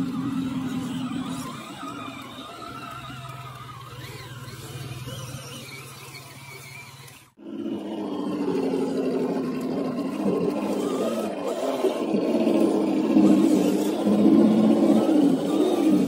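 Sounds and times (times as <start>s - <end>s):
rc car motors whining: 0.0s - 16.0s
rough motor growl: 0.0s - 16.0s.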